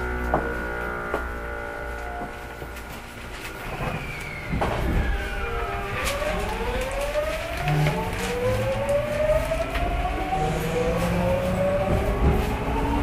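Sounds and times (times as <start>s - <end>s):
low train running rumble: 0.0s - 13.0s
train inverter whine rising: 0.0s - 13.0s.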